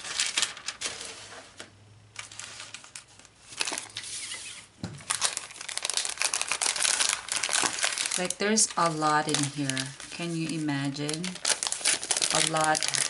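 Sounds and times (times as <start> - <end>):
plastic bag crinkling: 0.0 - 1.1, 2.2 - 4.2, 5.0 - 13.0.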